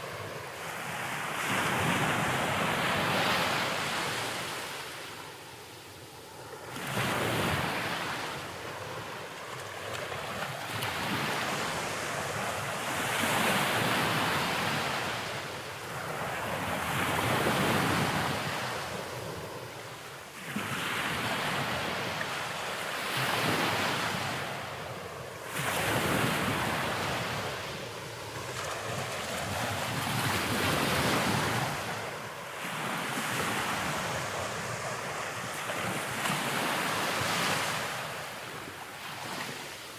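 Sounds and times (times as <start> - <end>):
sea surf: 6.3 - 39.8.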